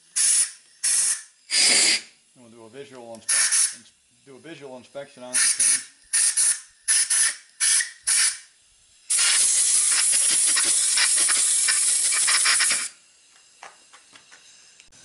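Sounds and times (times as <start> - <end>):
compressed air blow gun hissing: 0.0 - 2.2, 3.2 - 3.9, 5.2 - 15.0.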